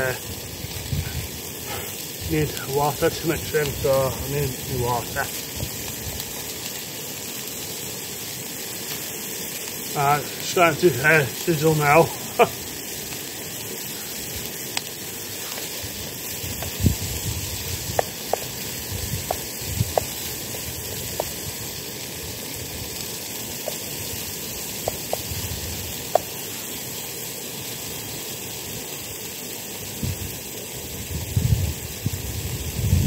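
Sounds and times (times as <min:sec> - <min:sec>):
small pops and crackles: 0:00.0 - 0:32.2
food sizzling in a pot: 0:00.0 - 0:33.0.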